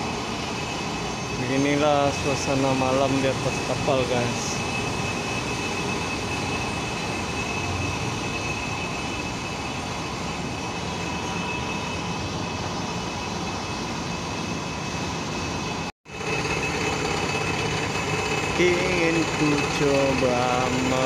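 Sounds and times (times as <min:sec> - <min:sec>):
faint high whine: 0:00.0 - 0:21.0
ship machinery rumble: 0:00.0 - 0:21.0.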